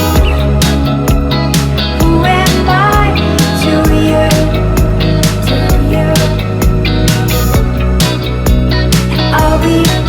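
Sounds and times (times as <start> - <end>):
song with steady beat: 0.0 - 10.0.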